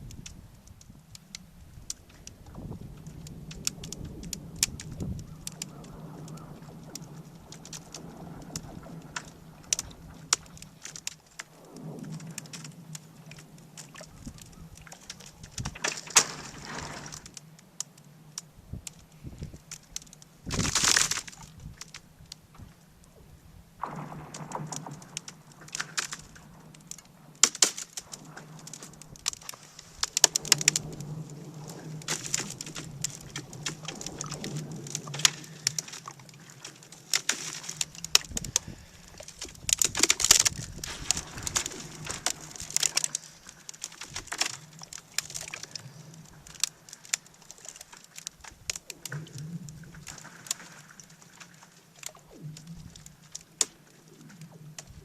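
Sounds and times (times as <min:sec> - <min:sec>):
lake ice cracking and snapping: 0:00.0 - 0:55.0
low groaning of water under ice: 0:00.0 - 0:55.0.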